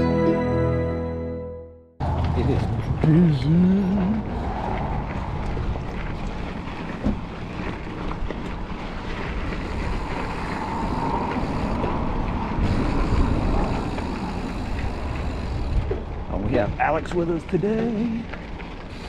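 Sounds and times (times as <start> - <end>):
tyres rolling on dirt trail: 2.0 - 19.0
wind buffeting microphone: 2.0 - 19.0.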